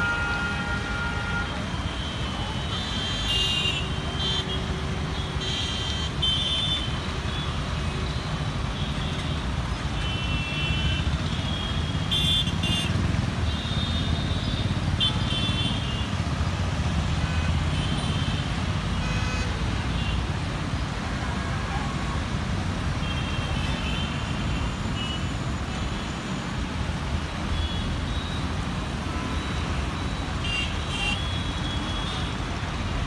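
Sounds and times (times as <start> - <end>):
traffic engines rumbling: 0.0 - 33.0.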